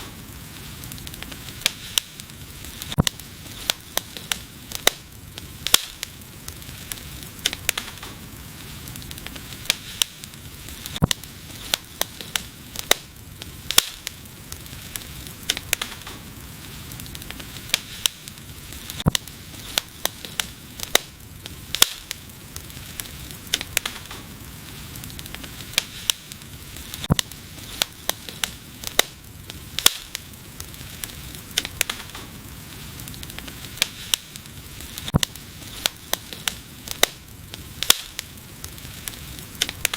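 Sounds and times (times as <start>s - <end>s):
low hiss of flames: 0.0s - 39.9s
wood fire crackling and popping: 0.0s - 39.9s.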